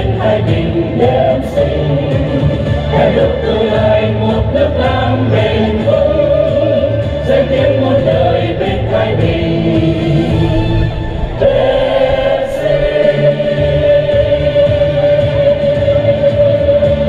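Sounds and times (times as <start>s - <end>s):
choir singing slow song: 0.0s - 17.0s
steady bass accompaniment: 0.0s - 17.0s.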